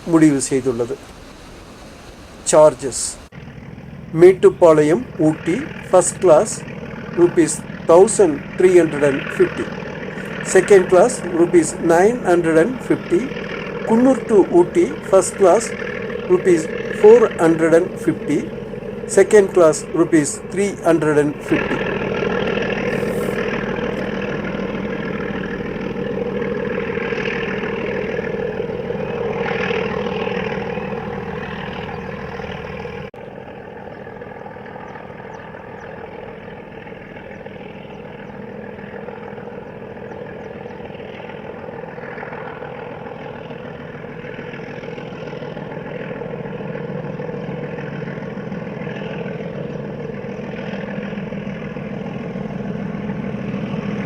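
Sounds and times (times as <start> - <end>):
heavy engine running: 0.0 - 33.3, 35.4 - 54.0.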